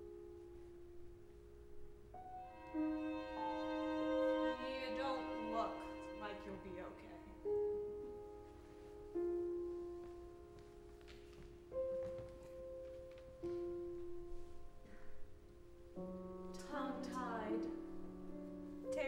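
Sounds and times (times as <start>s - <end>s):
slow piano notes: 0.0s - 19.0s.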